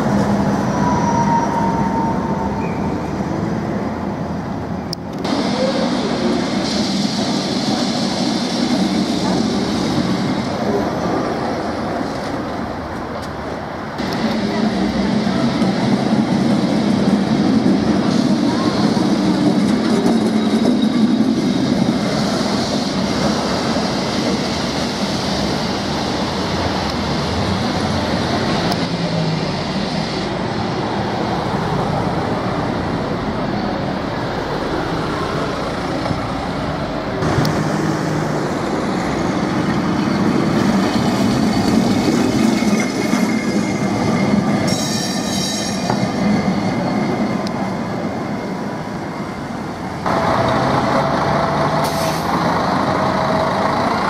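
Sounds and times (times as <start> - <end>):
street traffic: 0.0 - 54.0
tram wheels clattering on rails: 0.0 - 54.0.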